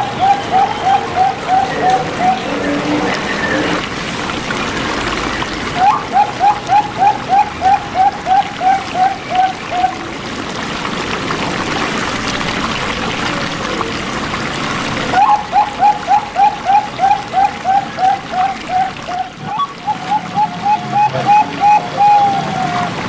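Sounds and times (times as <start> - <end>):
water trickling: 0.0 - 23.0.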